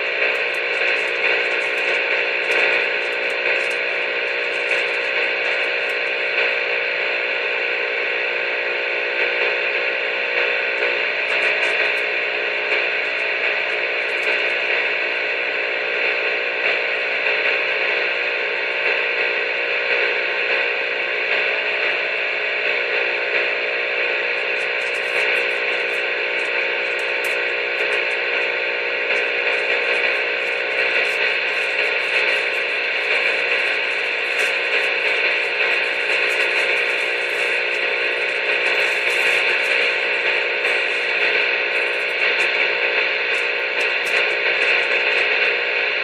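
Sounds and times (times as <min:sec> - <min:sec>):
electronic hum and hiss: 0:00.0 - 0:46.0.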